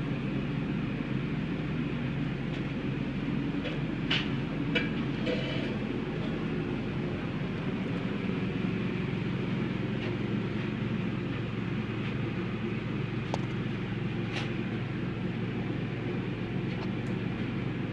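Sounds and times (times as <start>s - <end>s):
machinery humming: 0.0s - 17.9s.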